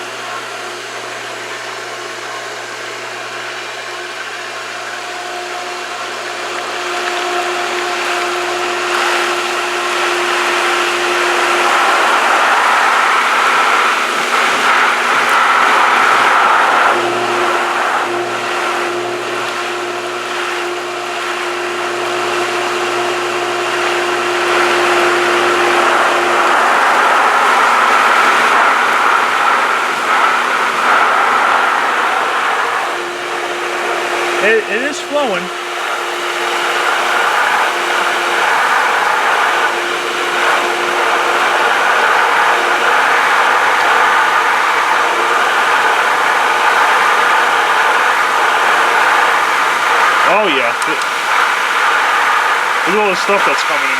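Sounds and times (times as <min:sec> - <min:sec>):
electric motor hum: 0:00.0 - 0:53.9
water and air rushing through pump: 0:00.0 - 0:53.9.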